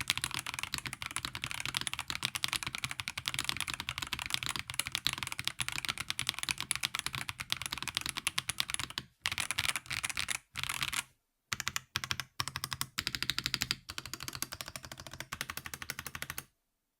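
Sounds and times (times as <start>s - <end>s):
mechanical keyboard typing: 0.0s - 16.5s.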